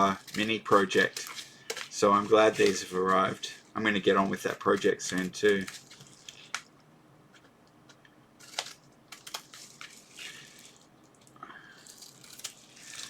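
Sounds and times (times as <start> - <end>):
plastic packaging rustling: 0.0 - 6.7, 8.4 - 13.0.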